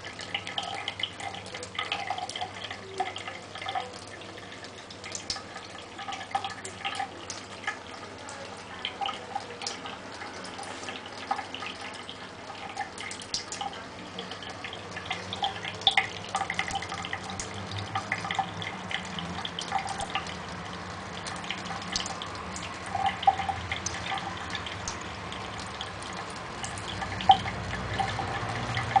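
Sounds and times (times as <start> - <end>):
cat lapping water: 0.0 - 29.0
tap water running into sink: 0.0 - 29.0.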